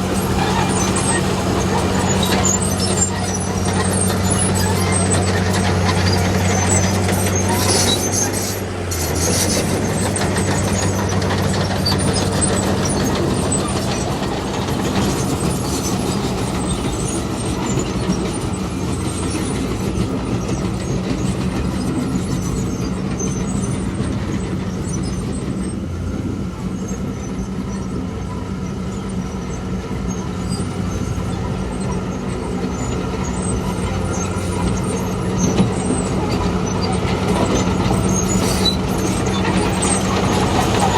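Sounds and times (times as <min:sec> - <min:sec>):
loud clattering and scraping: 0:00.0 - 0:25.8, 0:30.8 - 0:40.9
diesel machinery engine hum: 0:00.0 - 0:40.9.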